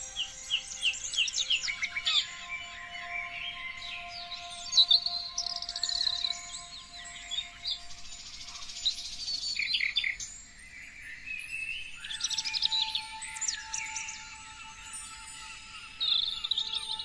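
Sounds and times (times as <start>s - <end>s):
songbirds singing and chirping: 0.0s - 17.0s.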